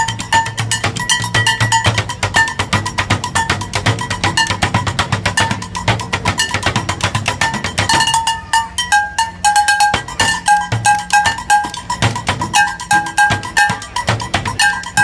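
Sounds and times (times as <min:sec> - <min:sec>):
drumsticks clanging on metal pans: 0:00.0 - 0:15.0.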